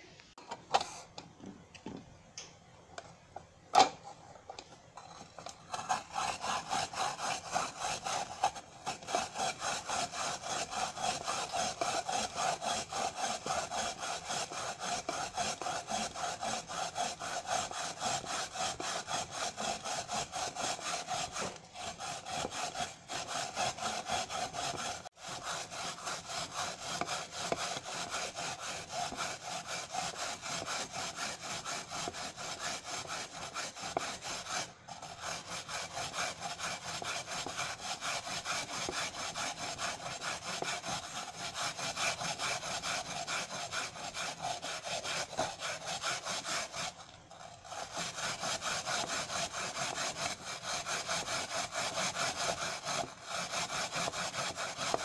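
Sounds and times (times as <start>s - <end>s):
apple grating on plastic grater: 4.0s - 55.0s.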